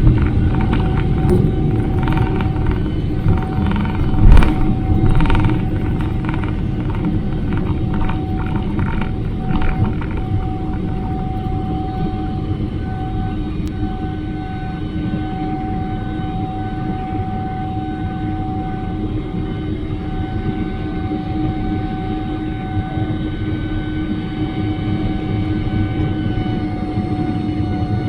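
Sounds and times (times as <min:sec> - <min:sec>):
jet engine and airflow rumble: 0:00.0 - 0:28.0
whining tones: 0:00.0 - 0:28.0.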